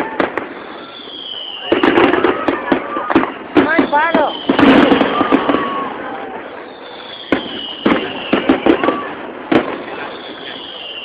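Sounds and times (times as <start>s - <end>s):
falling firework whistle: 0.0s - 11.0s
fireworks crackling: 0.0s - 11.0s.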